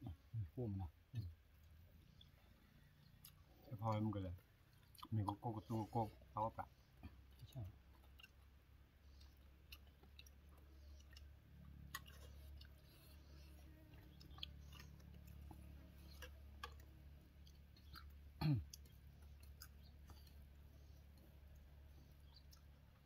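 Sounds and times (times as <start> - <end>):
people eating by hand: 0.1 - 23.0.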